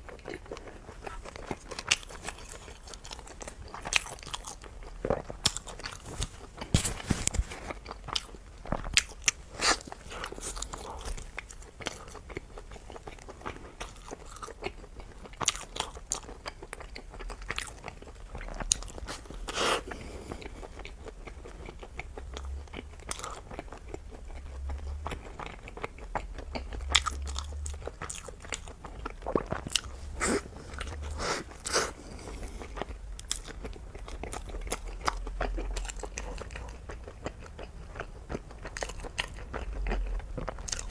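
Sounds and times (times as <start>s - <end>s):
crunchy bites and chewing: 0.1s - 40.9s.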